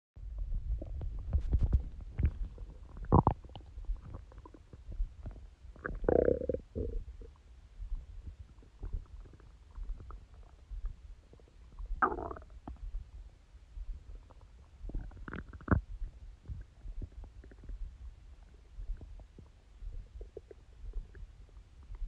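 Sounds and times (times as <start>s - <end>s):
stomach growling and gurgling: 0.3s - 13.3s, 13.9s - 22.0s.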